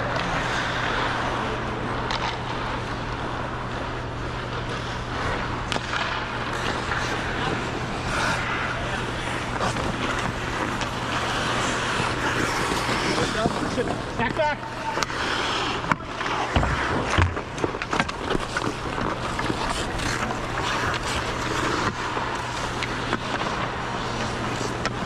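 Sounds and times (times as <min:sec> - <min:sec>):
ice skates scraping on ice: 0:00.0 - 0:25.0.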